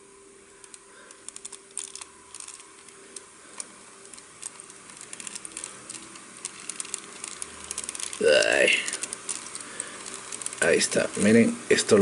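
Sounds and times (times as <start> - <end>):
plastic toy parts clicking: 0.6 - 11.3.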